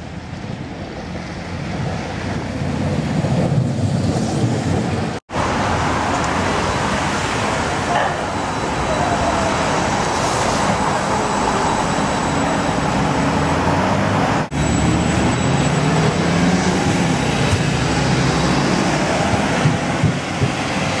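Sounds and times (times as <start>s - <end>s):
street traffic: 0.0s - 21.0s
tram rumbling and humming: 0.0s - 21.0s.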